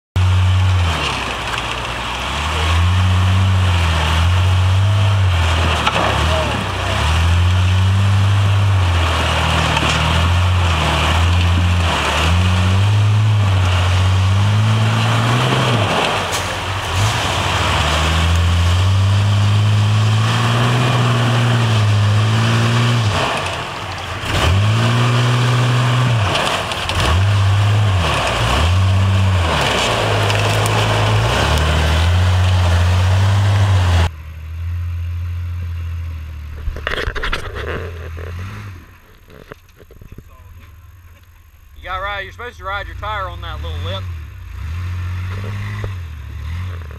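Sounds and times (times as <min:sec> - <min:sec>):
off-road vehicle engine revving: 0:00.1 - 0:46.9.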